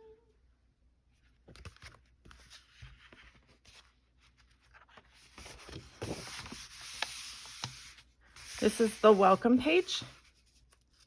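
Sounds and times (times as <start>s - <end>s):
paper pages rustling: 1.3s - 11.0s.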